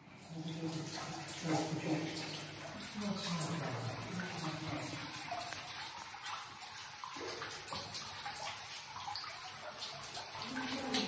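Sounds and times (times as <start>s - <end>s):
water dripping into pool: 0.0s - 11.0s.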